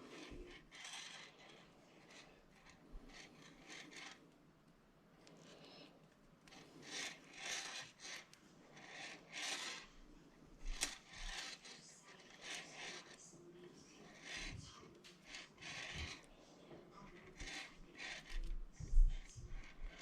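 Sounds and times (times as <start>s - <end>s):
fishing line rubbing through fingers: 0.0s - 4.2s, 6.5s - 10.0s, 10.6s - 20.0s.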